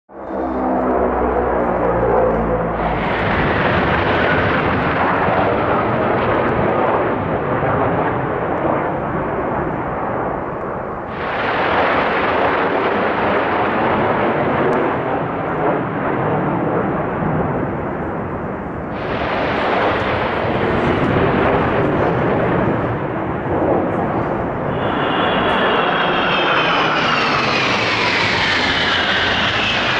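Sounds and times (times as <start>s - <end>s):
fighter jets roaring overhead: 0.1s - 29.9s.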